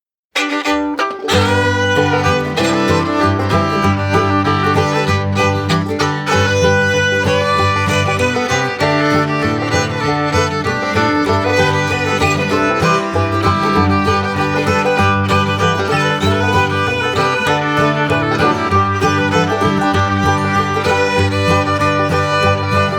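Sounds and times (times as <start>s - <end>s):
upbeat fiddle tune with guitar: 0.3s - 22.9s.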